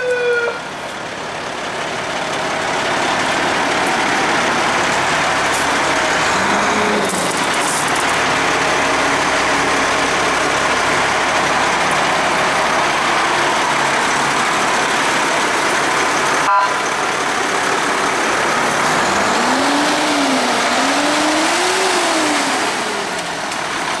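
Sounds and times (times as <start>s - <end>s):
diesel engine droning and revving: 0.0s - 24.0s.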